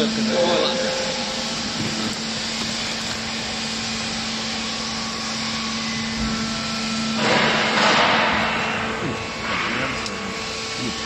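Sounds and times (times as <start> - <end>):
hydraulic press motor humming: 0.0 - 10.6.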